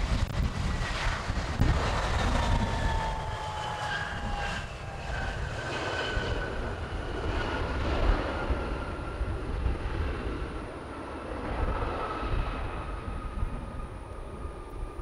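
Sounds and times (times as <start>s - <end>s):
jet engine whine: 0.0s - 15.0s
low jet rumble: 0.0s - 15.0s.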